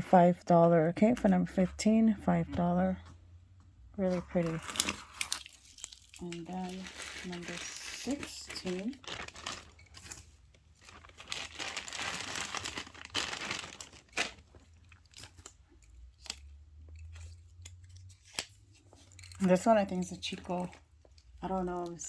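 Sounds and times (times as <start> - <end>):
packaging rustling and crinkling: 4.1 - 22.0.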